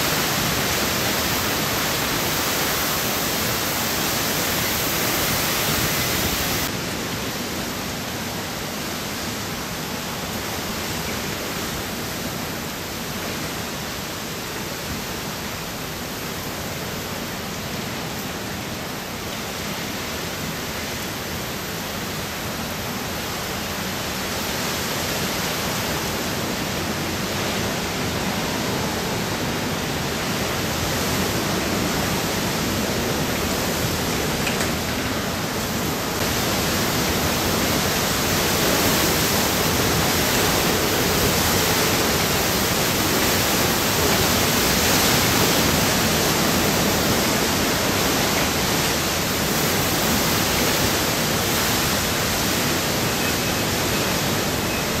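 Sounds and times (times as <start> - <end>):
heavy driving rain: 0.0 - 55.0
strong wind: 0.0 - 55.0.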